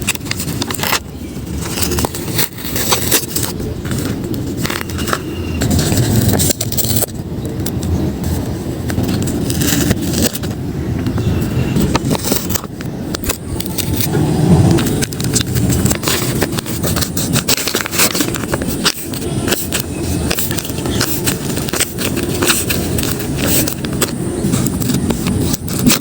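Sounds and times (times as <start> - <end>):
paper bags crackling and rustling: 0.0 - 26.0
steady low rumble: 0.0 - 26.0.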